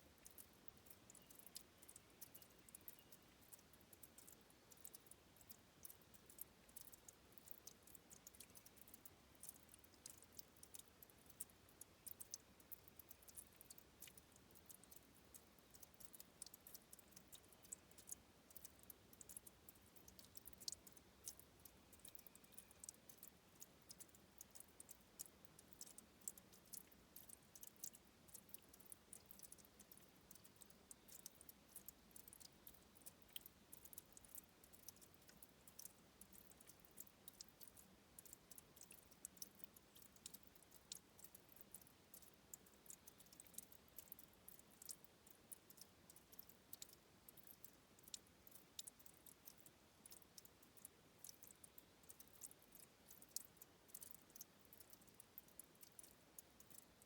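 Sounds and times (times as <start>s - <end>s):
trickle of spring water: 0.0s - 57.0s.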